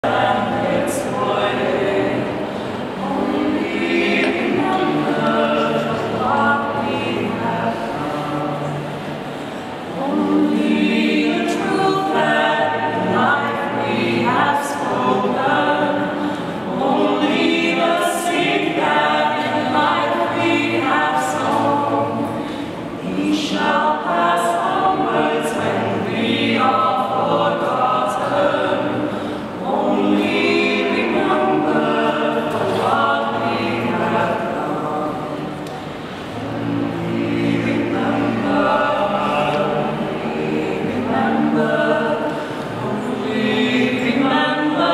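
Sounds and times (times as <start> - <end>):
vocal quartet singing a cappella: 0.0 - 44.9.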